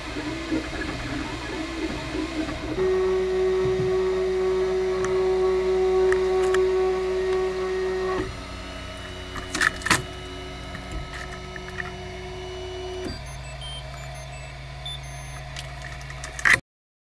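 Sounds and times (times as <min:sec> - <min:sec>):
printer motors whining: 0:00.0 - 0:16.6.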